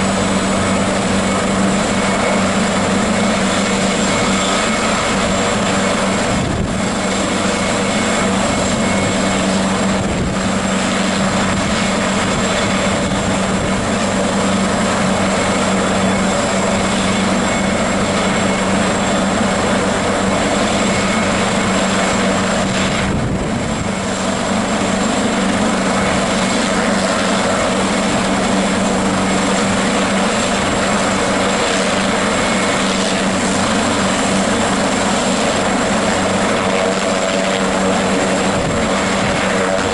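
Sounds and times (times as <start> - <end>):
helicopter engine and rotor running: 0.0 - 39.9
high turbine whistling: 0.0 - 39.9.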